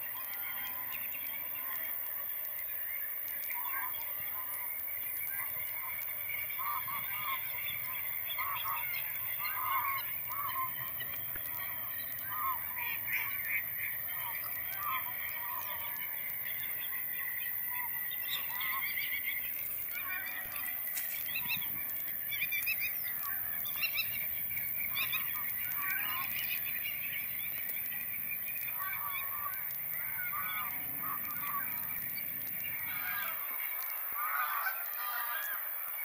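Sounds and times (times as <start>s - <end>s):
geese honking: 5.3s - 28.0s, 28.6s - 32.0s, 32.6s - 36.0s.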